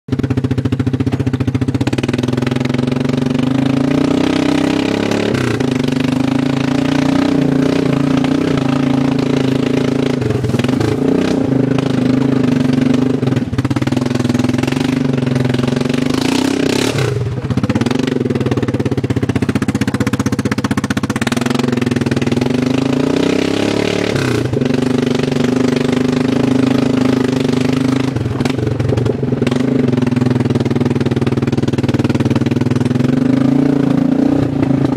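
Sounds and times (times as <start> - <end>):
loud atv engine revving: 0.1 - 34.9.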